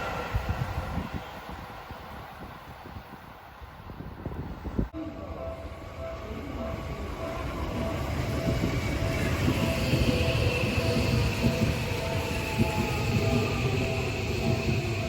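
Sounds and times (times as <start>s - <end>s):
high train whine: 0.0s - 15.0s
train rumble: 0.0s - 15.0s.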